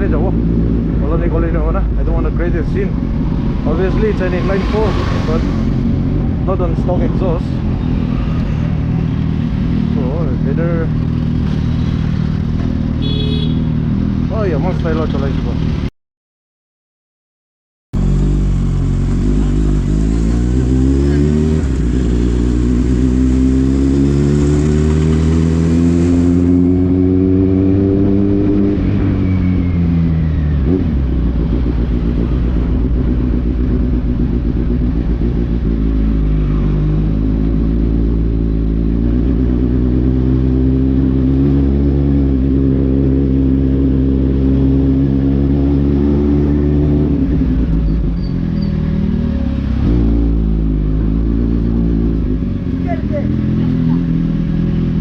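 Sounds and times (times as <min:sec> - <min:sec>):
motorcycle engine revving: 0:00.0 - 0:15.9, 0:18.0 - 0:55.0.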